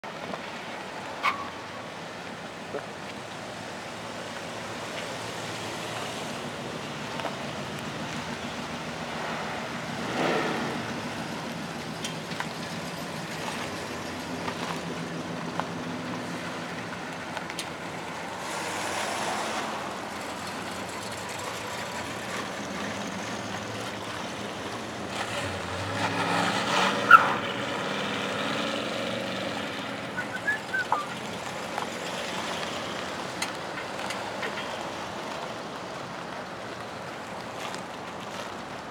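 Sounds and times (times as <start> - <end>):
cars driving slowly past: 0.0 - 38.9.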